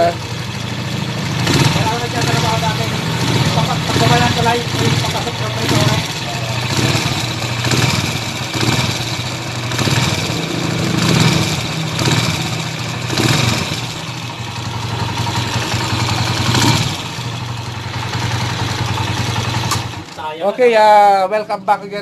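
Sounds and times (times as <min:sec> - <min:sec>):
engine ticking: 0:00.0 - 0:20.7
motorcycle engine idling: 0:00.0 - 0:21.2.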